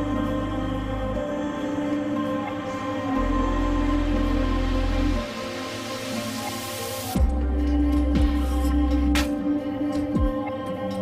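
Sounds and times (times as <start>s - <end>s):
slow ambient chords: 0.0s - 11.0s.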